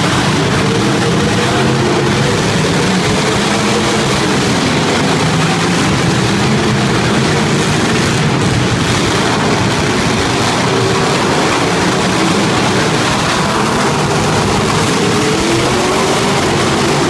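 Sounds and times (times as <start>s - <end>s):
loud car engines running: 0.0s - 17.0s.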